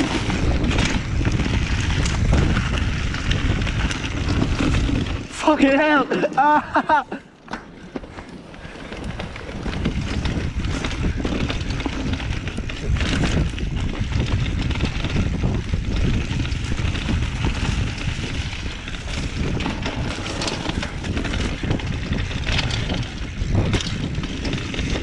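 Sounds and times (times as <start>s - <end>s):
wind rumble on microphone: 0.0s - 5.8s, 7.8s - 25.0s
bike knocking and rattling: 0.0s - 25.0s
tyres rolling over dirt: 0.0s - 25.0s.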